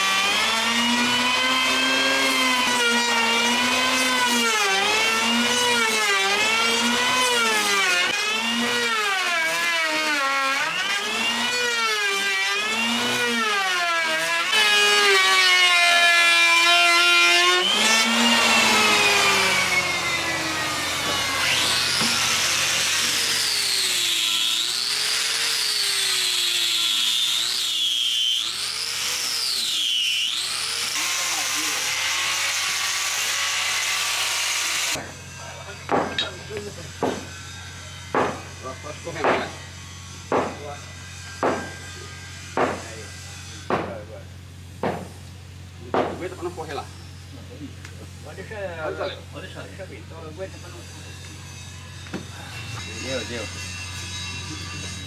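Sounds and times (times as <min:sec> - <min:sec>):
power tool cutting wood: 0:00.0 - 0:55.0.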